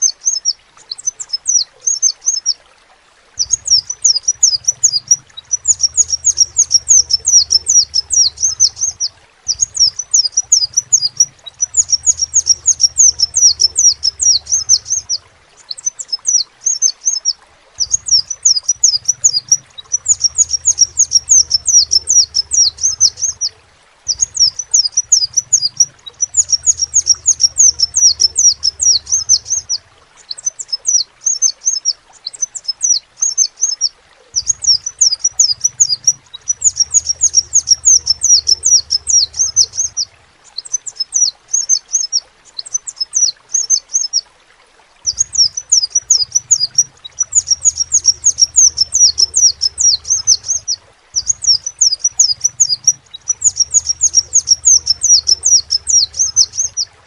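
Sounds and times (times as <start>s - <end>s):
bird chirping: 0.0s - 2.6s, 3.4s - 44.2s, 45.0s - 57.0s.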